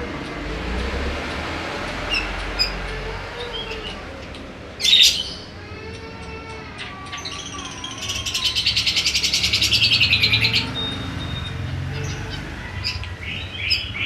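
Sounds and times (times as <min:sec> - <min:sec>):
bulbul rasping song: 0:01.7 - 0:14.0.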